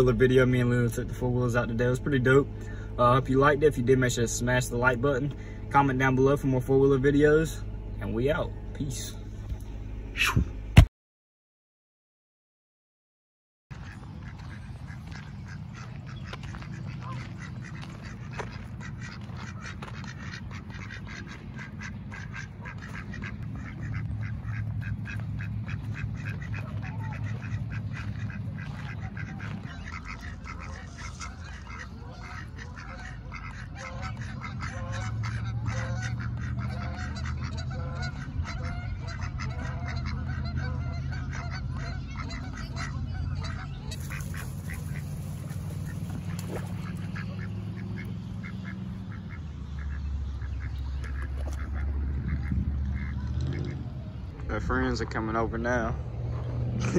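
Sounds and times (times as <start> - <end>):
ducks quacking: 0.0 - 9.5, 13.7 - 56.9
steady low rumble: 0.0 - 10.9, 13.7 - 56.9.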